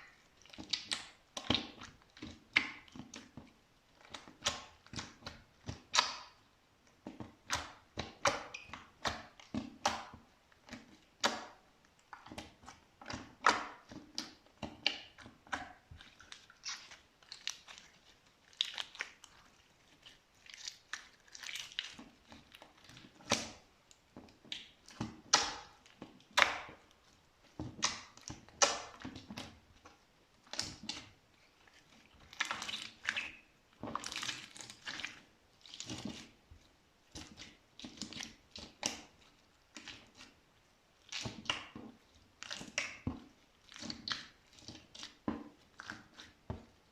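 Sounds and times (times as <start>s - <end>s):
slime squelching by hand: 0.0s - 46.9s.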